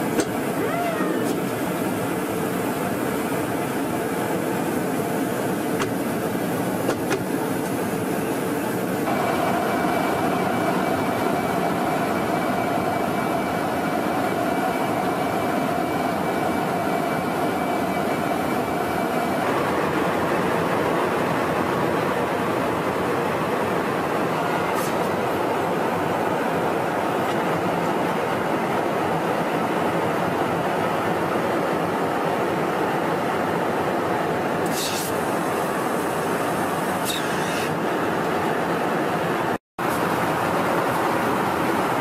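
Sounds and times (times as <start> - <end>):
jet engine airflow drone: 0.0 - 42.0.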